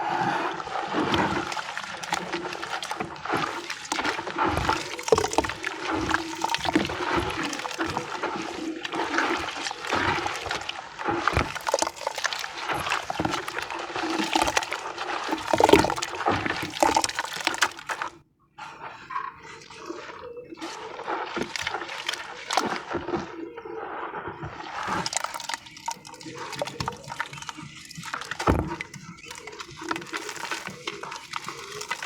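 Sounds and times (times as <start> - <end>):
wet crackling and sloshing: 0.0 - 32.0.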